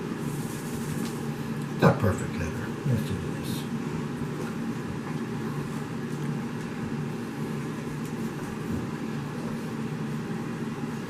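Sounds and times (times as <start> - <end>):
steady background hum and hiss: 0.0 - 11.0.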